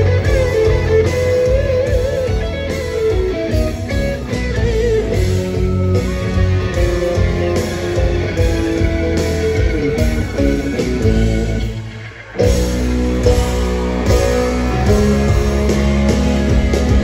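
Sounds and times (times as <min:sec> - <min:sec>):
live country band playing: 0:00.0 - 0:17.0.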